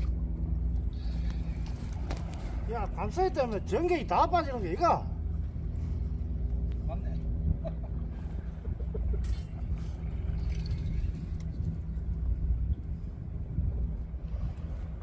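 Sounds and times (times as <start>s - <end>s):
low mechanical hum and rumble: 0.0s - 15.0s.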